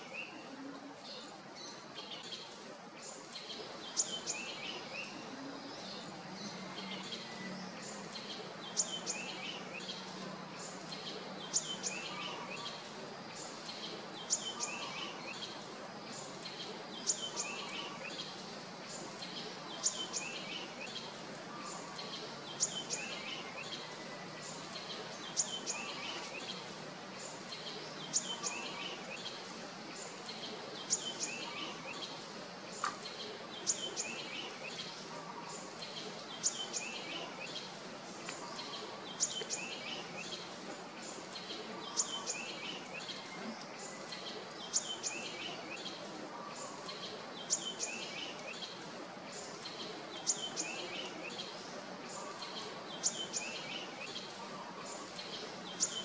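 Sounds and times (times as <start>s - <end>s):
bird song: 0.0s - 56.0s
steady background hiss: 0.0s - 56.0s.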